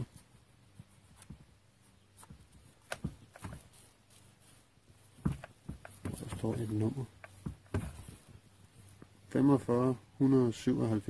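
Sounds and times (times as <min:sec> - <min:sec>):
faint handling clicks and knocks: 0:00.1 - 0:09.2.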